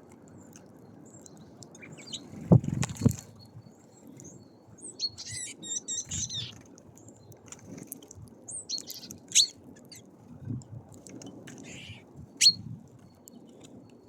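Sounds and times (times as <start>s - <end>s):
songbirds chirping: 0.1s - 14.0s.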